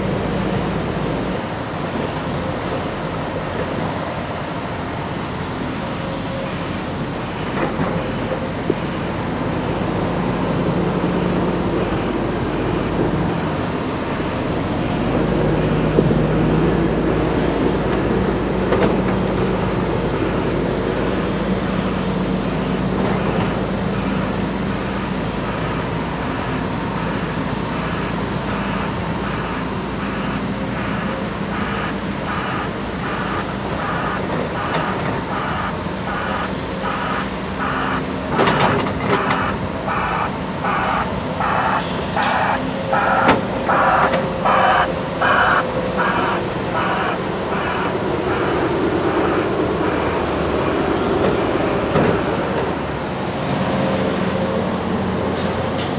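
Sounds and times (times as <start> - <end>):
heavy diesel engines running: 0.0 - 55.9.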